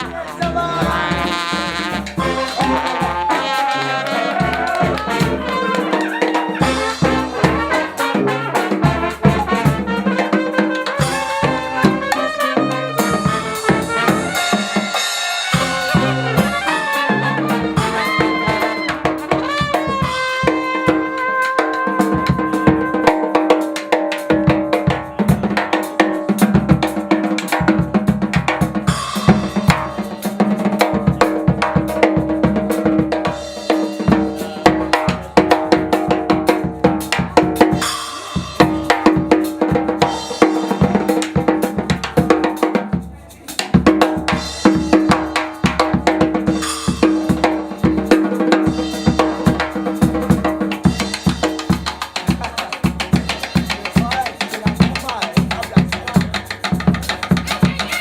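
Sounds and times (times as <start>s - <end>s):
brass band playing: 0.0s - 58.0s
drum kit: 0.0s - 58.0s.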